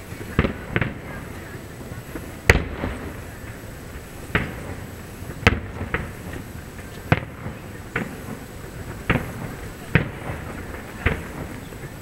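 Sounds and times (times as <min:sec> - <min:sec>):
distant firework bangs: 0:00.0 - 0:12.0.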